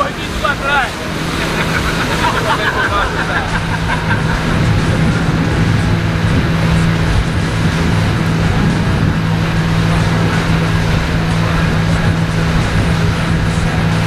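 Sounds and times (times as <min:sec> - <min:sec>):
motorboat engine running: 0:00.0 - 0:14.0
water rushing past: 0:00.0 - 0:14.0
wind rushing: 0:00.0 - 0:14.0.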